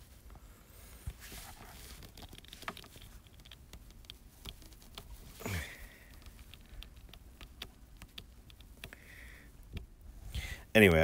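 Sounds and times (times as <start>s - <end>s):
fingers handling cable: 1.1s - 10.0s.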